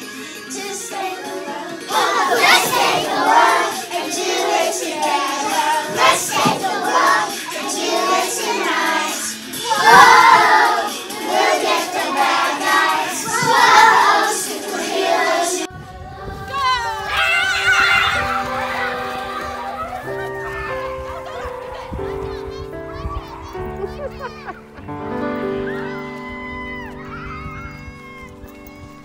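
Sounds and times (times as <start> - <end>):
children's song music: 0.0 - 29.0
young children singing and shouting: 0.0 - 29.0.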